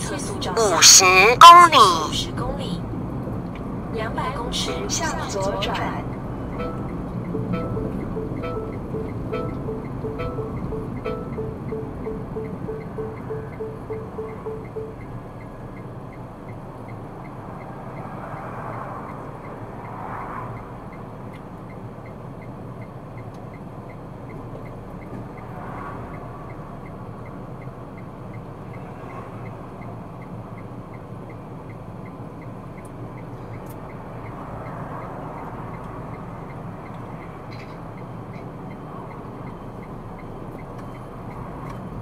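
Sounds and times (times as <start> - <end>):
car engine and tyre noise: 2.2 - 42.0
low tone with each tick: 3.4 - 3.7, 6.1 - 42.0
turn signal ticking: 3.4 - 28.8, 29.4 - 42.0.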